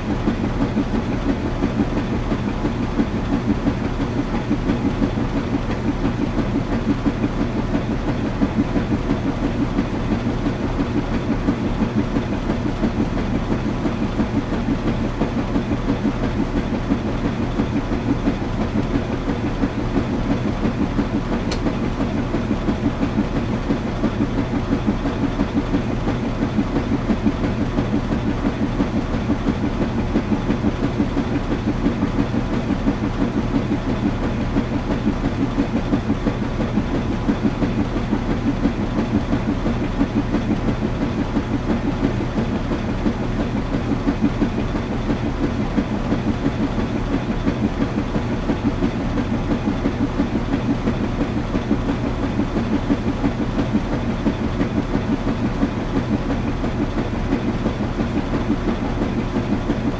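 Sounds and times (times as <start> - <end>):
washing machine churning: 0.0 - 59.9.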